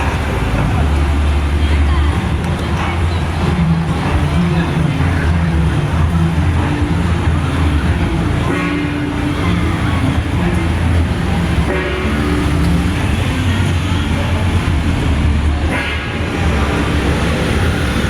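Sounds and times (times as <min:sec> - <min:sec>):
higher tones: 0:00.0 - 0:18.0
trucks droning: 0:00.0 - 0:18.0.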